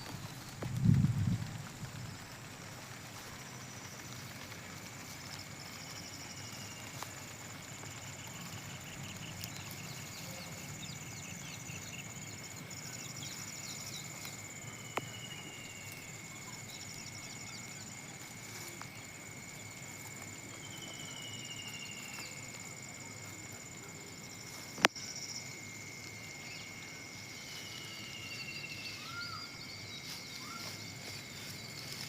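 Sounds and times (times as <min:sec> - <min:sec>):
high-pitched insect drones: 0:00.0 - 0:32.0.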